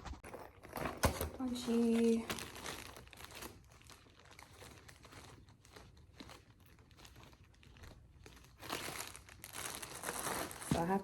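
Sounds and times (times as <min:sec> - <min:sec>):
faint crinkling and rustling: 0:00.0 - 0:11.0.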